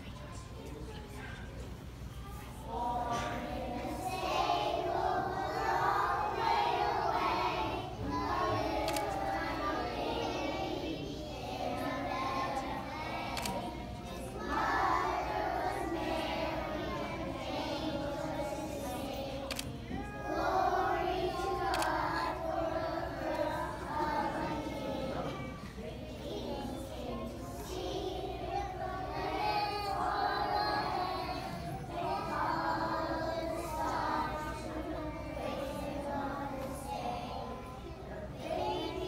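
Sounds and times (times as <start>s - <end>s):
children's choir singing: 2.5s - 39.0s.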